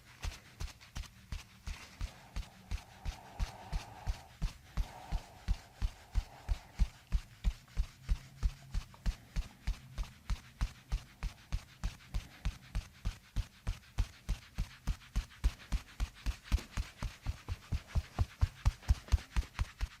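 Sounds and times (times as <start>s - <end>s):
faint low hum: 0.0s - 20.0s
massage thumps on a back: 0.0s - 20.0s.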